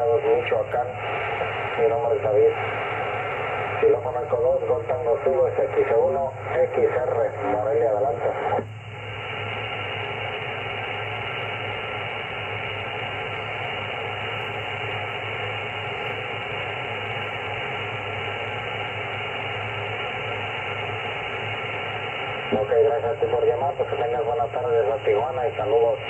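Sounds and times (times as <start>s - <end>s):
low hum: 0.0s - 26.0s
radio static hiss: 0.0s - 26.0s.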